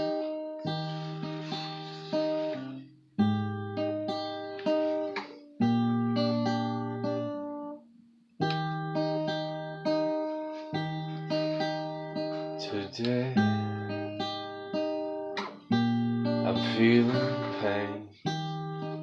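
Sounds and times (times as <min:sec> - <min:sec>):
acoustic guitar picked chords: 0:00.0 - 0:19.0.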